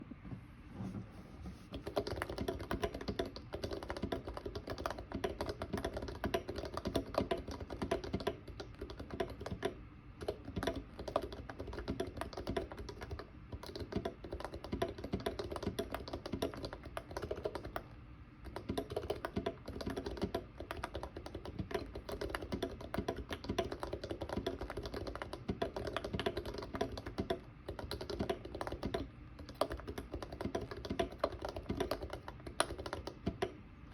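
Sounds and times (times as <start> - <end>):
fast keyboard typing: 1.7 - 33.6.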